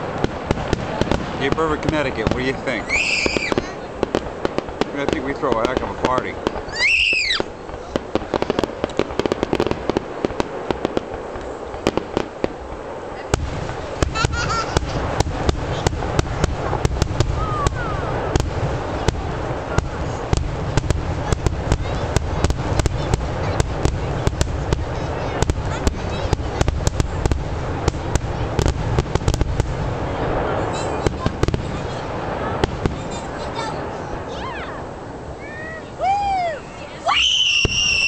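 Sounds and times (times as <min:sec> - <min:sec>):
deep continuous rumble: 0:00.0 - 0:38.0
fireworks bangs and crackles: 0:00.0 - 0:38.0.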